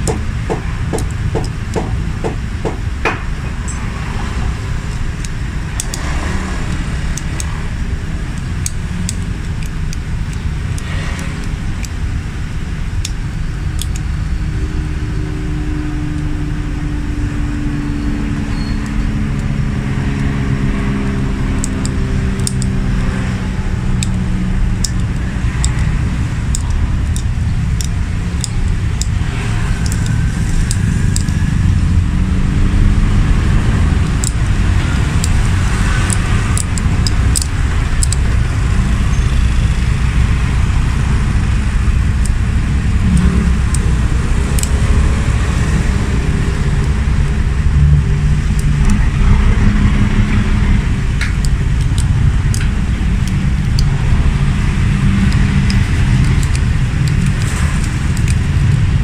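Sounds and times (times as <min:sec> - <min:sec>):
metal clicks and scraping: 0:00.0 - 0:12.2, 0:12.8 - 0:14.2, 0:18.5 - 0:32.1, 0:33.6 - 0:38.9, 0:40.3 - 0:59.0.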